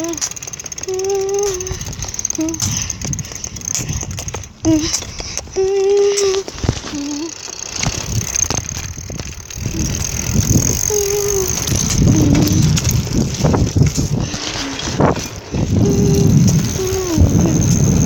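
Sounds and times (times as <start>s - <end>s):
bicycle squeals: 0.0s - 4.8s, 5.8s - 18.0s
sharp clicks: 0.0s - 17.4s
wind rumble on microphone: 1.2s - 7.2s, 7.8s - 18.0s.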